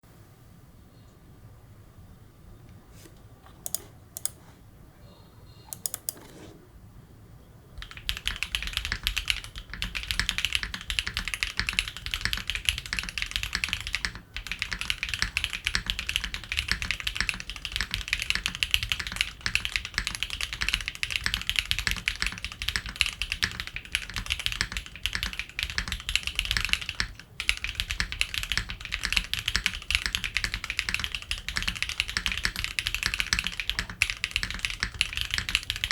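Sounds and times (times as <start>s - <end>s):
mechanical keyboard typing: 3.5s - 4.4s, 5.7s - 6.5s, 7.8s - 35.9s.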